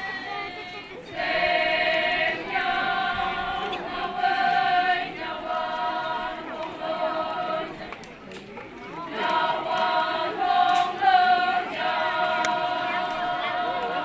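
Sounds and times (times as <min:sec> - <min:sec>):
women singing a chant in unison: 0:00.0 - 0:08.0, 0:09.0 - 0:14.0.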